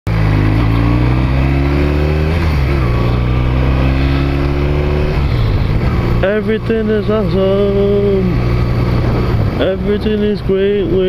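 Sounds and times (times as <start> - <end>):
motorcycle engine accelerating: 0.1 - 11.0.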